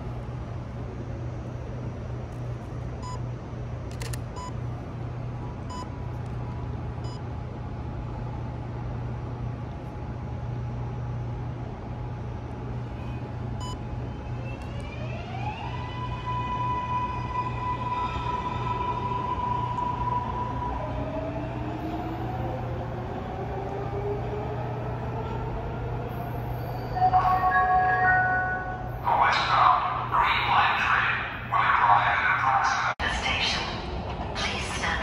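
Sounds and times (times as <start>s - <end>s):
train rumble and hum: 0.0s - 35.0s.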